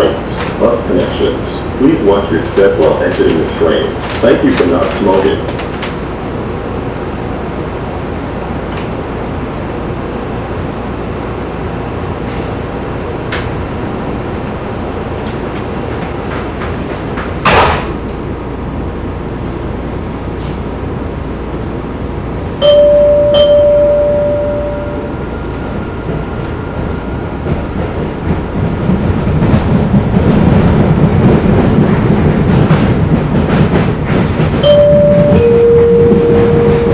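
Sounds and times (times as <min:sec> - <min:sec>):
subway car equipment humming: 0:00.0 - 0:36.9.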